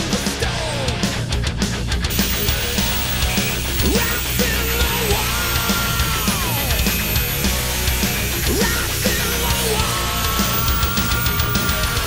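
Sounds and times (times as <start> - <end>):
hard rock music: 0.0 - 12.0.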